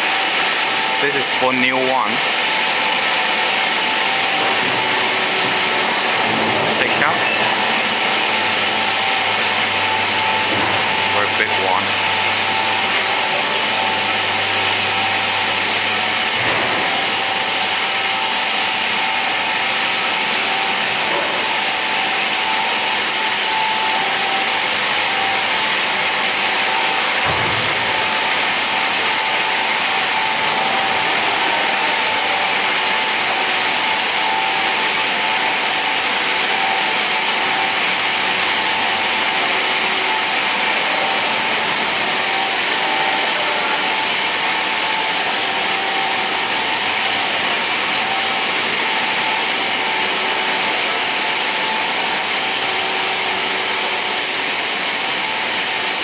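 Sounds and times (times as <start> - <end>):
machinery hissing and whining: 0.0 - 56.0.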